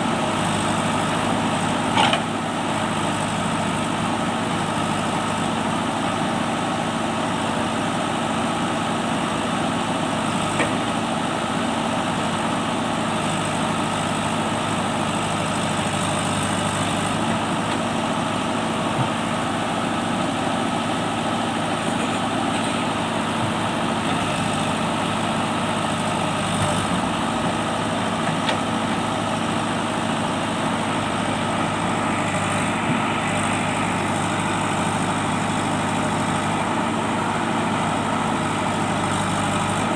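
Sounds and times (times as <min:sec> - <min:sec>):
digger diesel engine running: 0:00.0 - 0:39.9.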